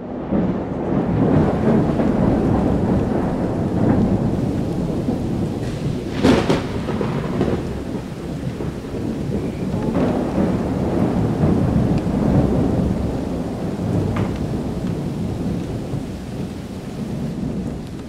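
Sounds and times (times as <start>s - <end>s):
rain: 0.0s - 18.0s
rumble of thunder: 0.0s - 18.0s
sharp thunder crack: 0.0s - 18.0s.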